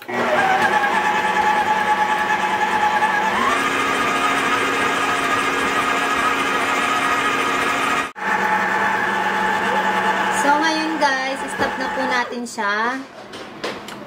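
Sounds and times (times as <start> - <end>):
stand mixer motor whining: 0.0 - 12.2.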